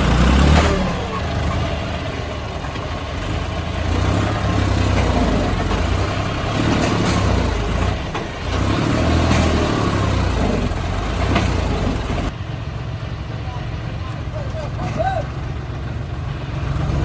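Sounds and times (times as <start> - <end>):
heavy machine engine rumbling: 0.0 - 17.0.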